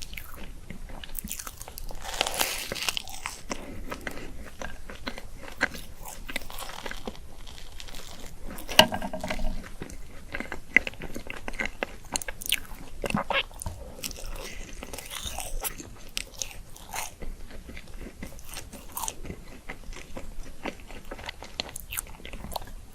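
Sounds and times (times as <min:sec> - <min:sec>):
chewing: 0:00.0 - 0:07.6, 0:11.3 - 0:22.9.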